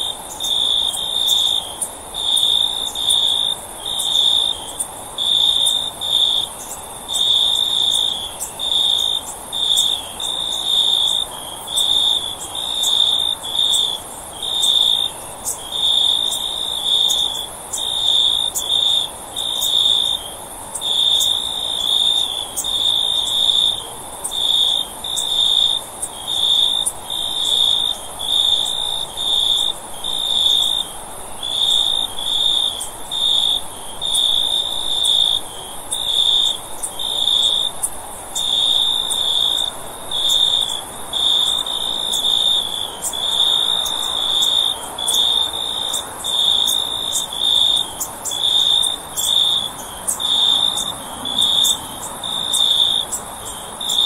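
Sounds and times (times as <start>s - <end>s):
cricket chirping: 0.0s - 54.0s
faint background hiss: 0.0s - 54.0s.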